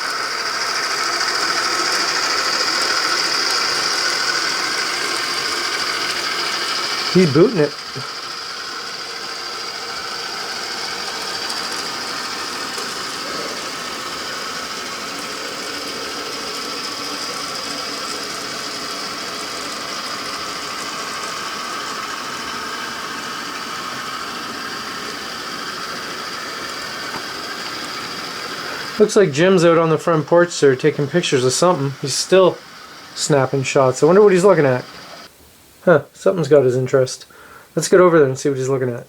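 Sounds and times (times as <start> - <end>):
model train motor whine and rattle: 0.0 - 35.3.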